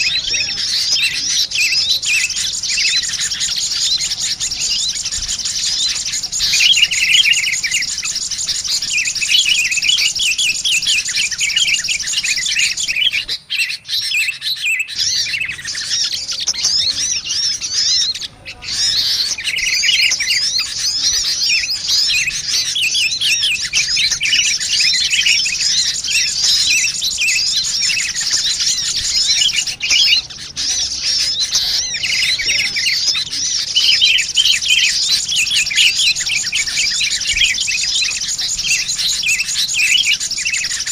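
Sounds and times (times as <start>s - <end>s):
bulbuls chirping: 0.0s - 40.9s
sunbirds chirping and trilling: 0.0s - 40.9s.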